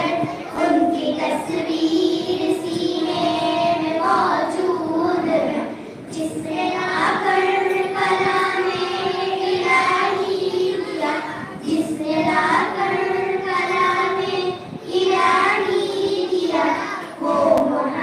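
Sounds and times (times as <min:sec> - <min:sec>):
girls singing together: 0:00.0 - 0:18.0.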